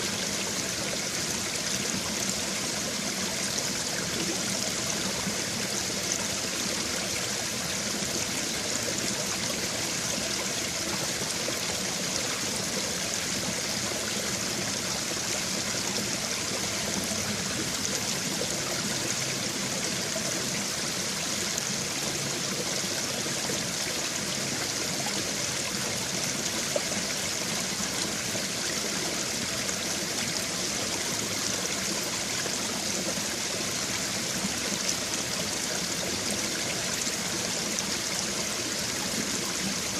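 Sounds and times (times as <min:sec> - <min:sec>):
stream water flowing over stones: 0:00.0 - 0:39.9.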